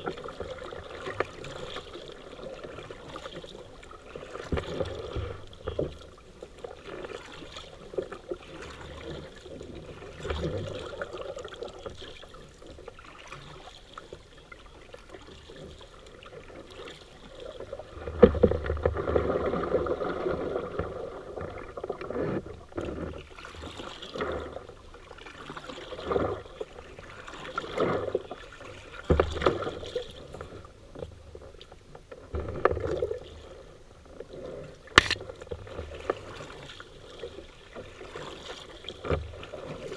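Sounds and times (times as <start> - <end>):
paddle splashes and knocks: 0.0 - 39.9
running river water: 0.0 - 39.9.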